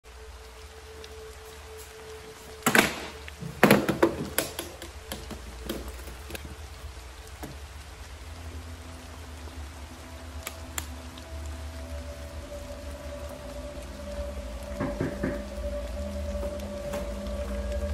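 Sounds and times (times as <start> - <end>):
faint music tones: 0.0 - 17.9.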